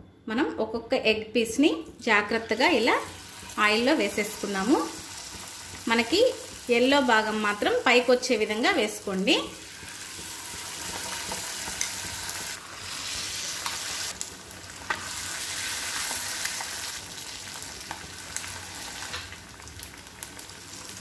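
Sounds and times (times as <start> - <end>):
battered food deep-frying in oil: 1.9 - 21.0.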